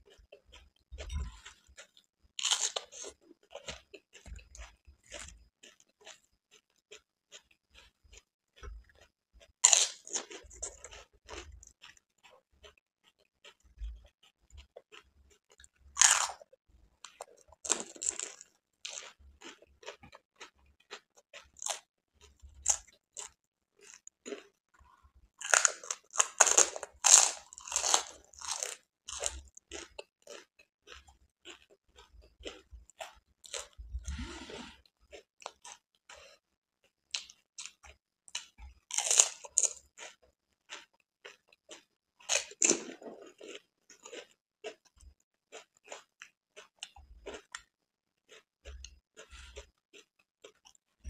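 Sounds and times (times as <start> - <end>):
crunching of crisp food: 0.0 - 51.0
quiet chewing: 0.0 - 51.0.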